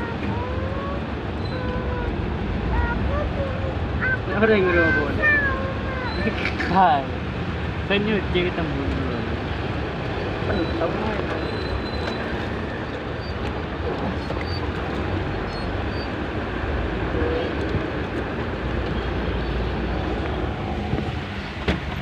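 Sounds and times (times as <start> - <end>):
road noise: 0.0 - 22.0
vehicle engine: 0.0 - 22.0.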